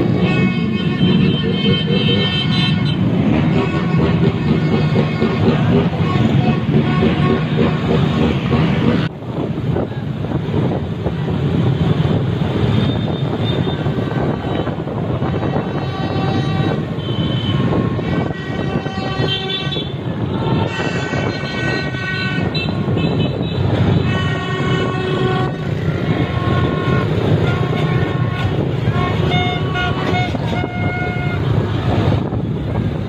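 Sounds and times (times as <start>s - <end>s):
motorbike horns beeping: 0.0s - 9.0s, 12.7s - 31.6s
scooter engines rumbling: 0.0s - 33.0s
wind: 0.0s - 33.0s.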